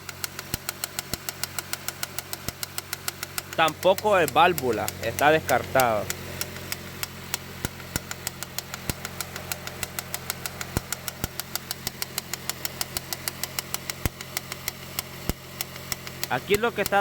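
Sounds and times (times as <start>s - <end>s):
car engine idling: 0.0s - 17.0s
fast even ticking: 0.2s - 17.0s.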